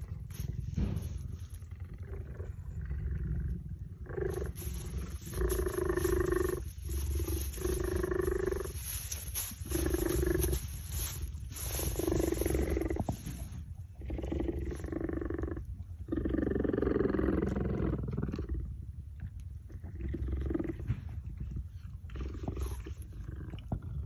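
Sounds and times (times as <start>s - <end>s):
cheetahs purring: 0.0s - 18.9s, 19.7s - 21.0s, 22.0s - 24.0s.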